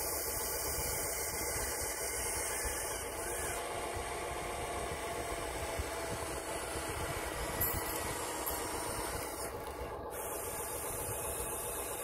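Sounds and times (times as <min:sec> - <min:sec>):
toy excavator mechanical hum: 0:00.0 - 0:12.0.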